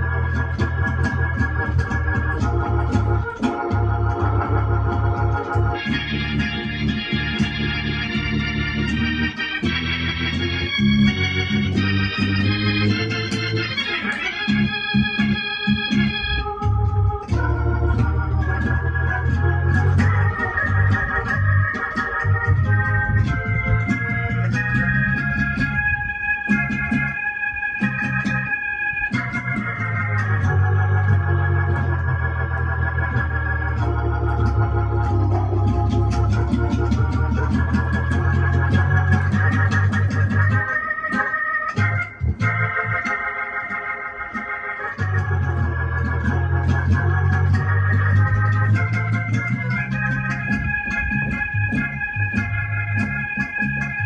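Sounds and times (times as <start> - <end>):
deep bass: 0.0 - 13.8, 14.5 - 40.7, 44.9 - 54.0
organ gospel chords on keyboard: 0.0 - 54.0.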